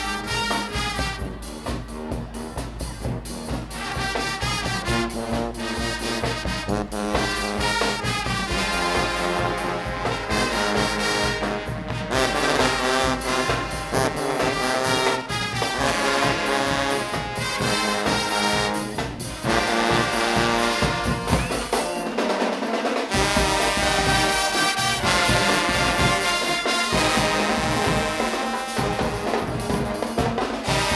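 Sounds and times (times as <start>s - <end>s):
drum beat: 0.0s - 30.9s
trumpets and trombones: 0.0s - 30.9s.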